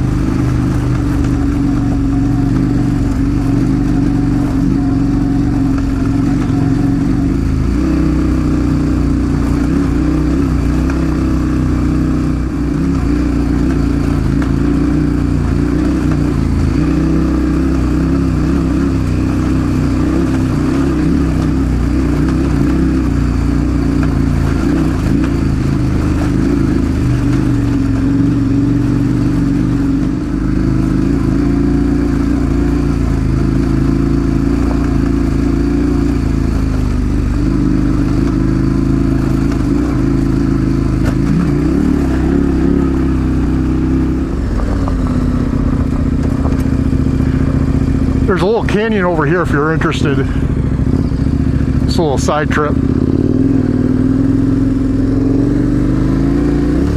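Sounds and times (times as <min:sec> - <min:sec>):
motorcycle engine droning: 0:00.0 - 0:56.9.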